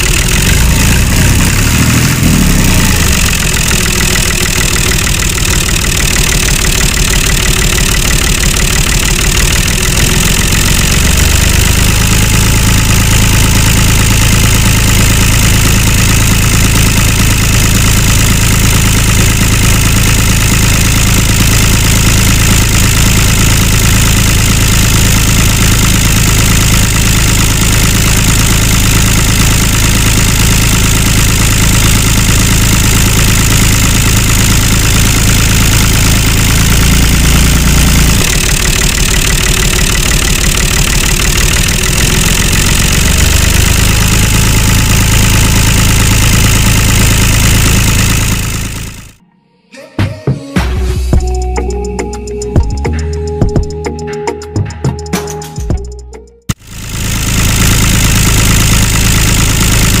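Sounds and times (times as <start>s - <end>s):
tractor engine idling: 0.0s - 49.2s, 51.2s - 60.0s.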